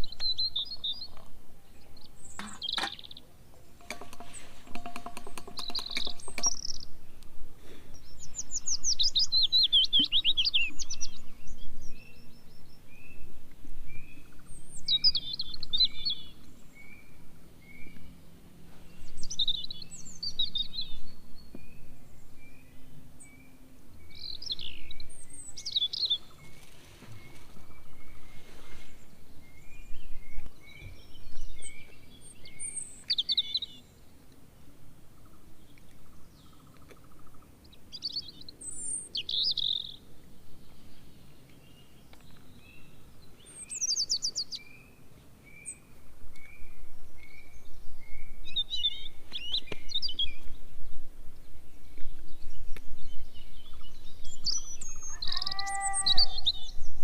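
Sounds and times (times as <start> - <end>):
birds chirping and trilling: 0.0 - 34.2, 35.1 - 57.0.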